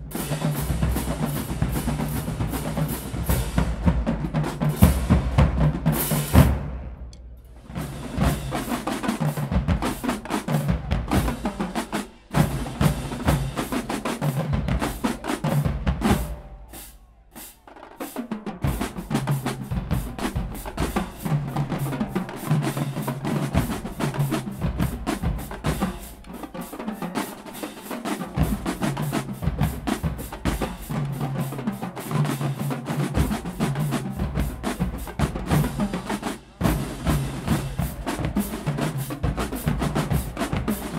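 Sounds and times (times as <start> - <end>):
marching drumline playing: 0.0 - 40.9.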